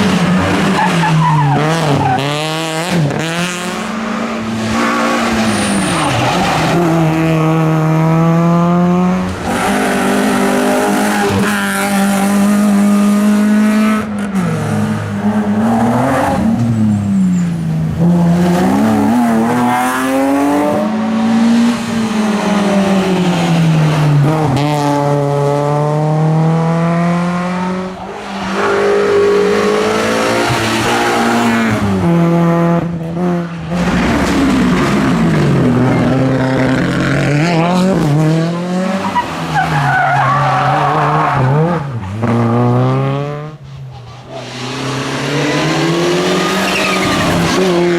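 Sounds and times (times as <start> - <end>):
rally car engines at full throttle: 0.0 - 47.9.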